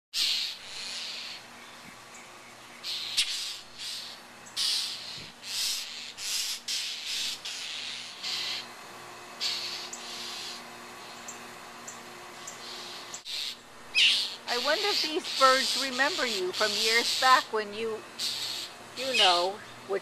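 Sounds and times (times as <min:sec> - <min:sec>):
bird harsh raspy alarm calls: 0:00.1 - 0:08.7, 0:09.4 - 0:11.4, 0:12.4 - 0:19.9.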